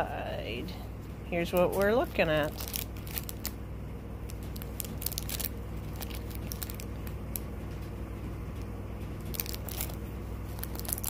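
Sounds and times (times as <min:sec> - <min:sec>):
steady low hum: 0:00.0 - 0:11.0
plastic wrapping crinkling: 0:01.5 - 0:03.6, 0:04.2 - 0:11.0.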